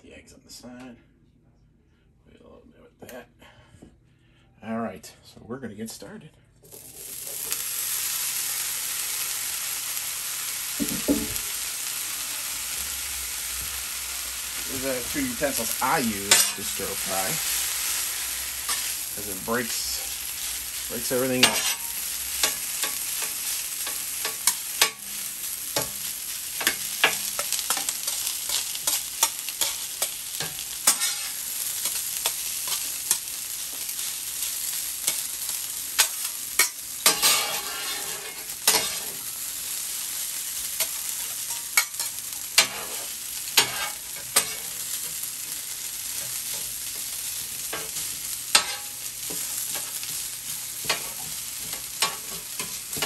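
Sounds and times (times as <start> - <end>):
fried rice sizzling on griddle: 6.7 - 53.0.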